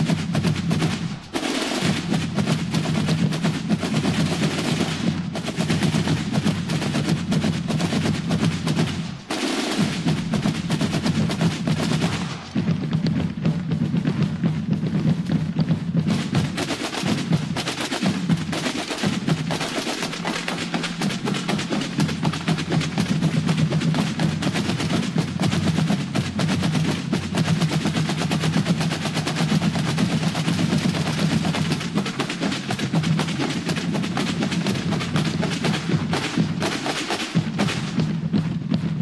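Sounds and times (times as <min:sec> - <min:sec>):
massed snare drums rolling: 0:00.0 - 0:39.0.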